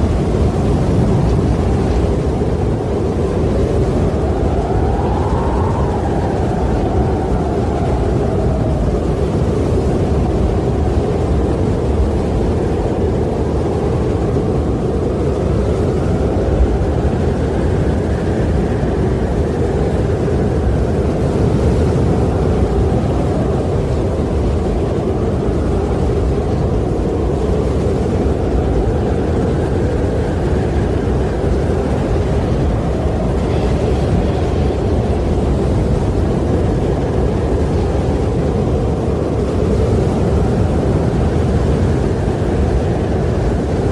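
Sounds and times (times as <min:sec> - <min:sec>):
wind blowing: 0:00.0 - 0:43.9.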